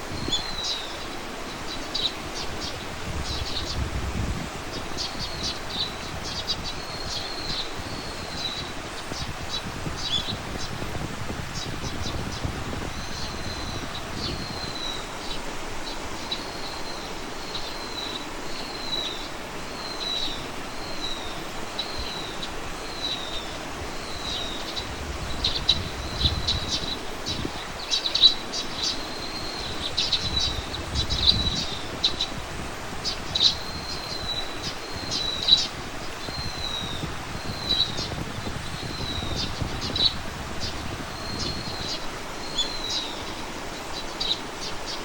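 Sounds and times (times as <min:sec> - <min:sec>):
outdoor background hiss: 0:00.0 - 0:45.0.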